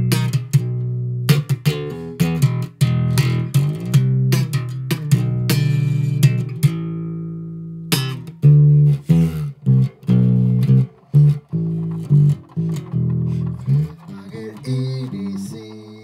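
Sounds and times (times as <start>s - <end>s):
plucked guitar and bass music: 0.0s - 16.0s.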